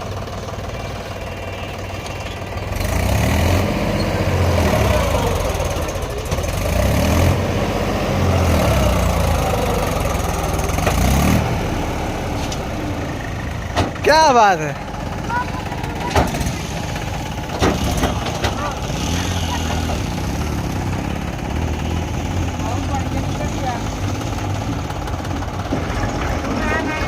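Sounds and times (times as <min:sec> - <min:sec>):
heavy diesel engine revving: 0:00.0 - 0:27.0.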